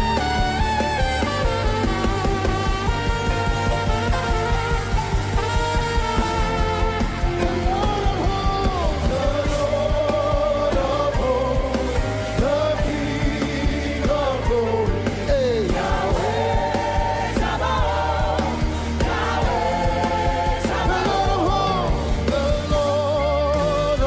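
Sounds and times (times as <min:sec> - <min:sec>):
gospel band playing: 0:00.0 - 0:24.0
singers holding long notes: 0:00.0 - 0:24.0.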